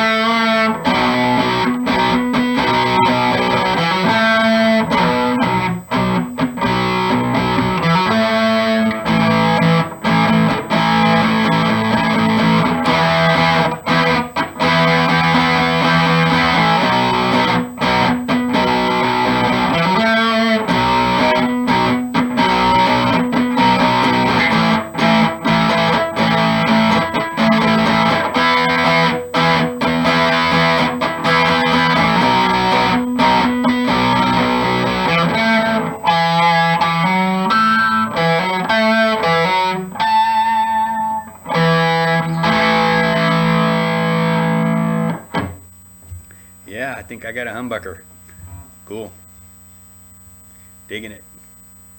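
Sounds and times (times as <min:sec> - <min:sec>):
electric guitar through amplifier: 0:00.0 - 0:51.9.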